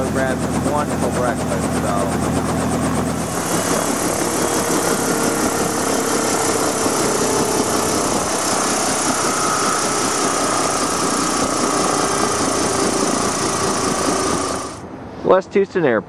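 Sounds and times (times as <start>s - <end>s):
helicopter engine and rotor: 0.0s - 14.9s.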